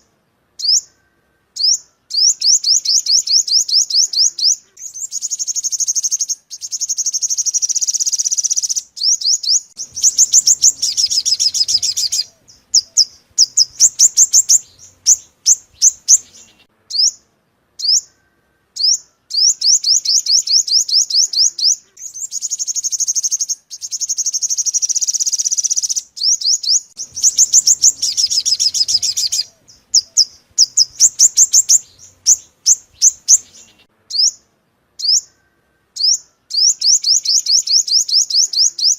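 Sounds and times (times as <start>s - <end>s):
bird singing trills and chips: 0.0s - 38.9s.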